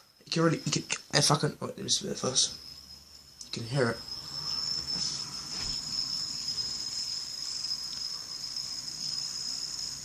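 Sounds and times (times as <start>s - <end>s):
fidget spinner whirring: 1.7s - 10.0s.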